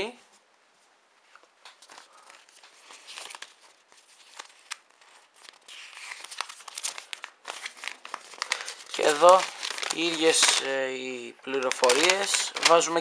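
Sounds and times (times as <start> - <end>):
paper rustling and crinkling: 1.4 - 10.8, 11.5 - 13.0.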